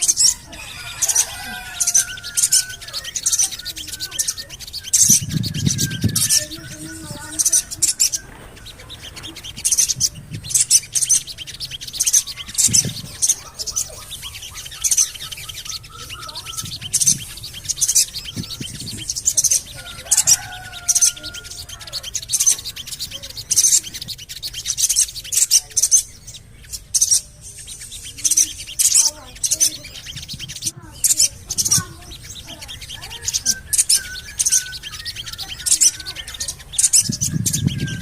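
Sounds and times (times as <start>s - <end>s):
lower bird whistles: 0.0s - 8.9s, 9.5s - 25.9s, 31.5s - 38.0s
bird high-pitched chirps: 0.0s - 38.0s.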